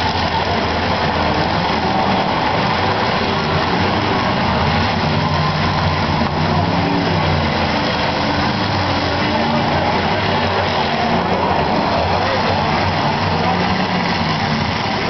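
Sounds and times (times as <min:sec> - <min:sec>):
car engines running: 0:00.0 - 0:15.0.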